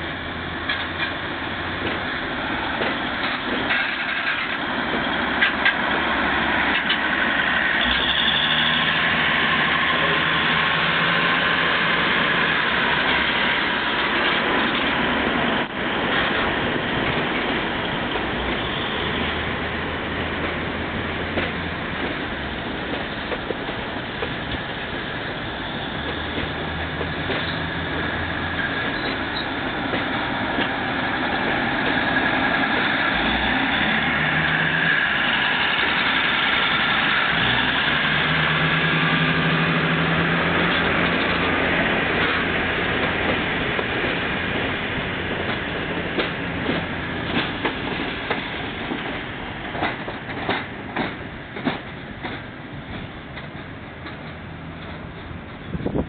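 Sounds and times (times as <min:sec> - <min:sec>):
diesel railcar passing: 0:00.0 - 0:56.0
wheels clicking over rail joints: 0:00.1 - 0:56.0.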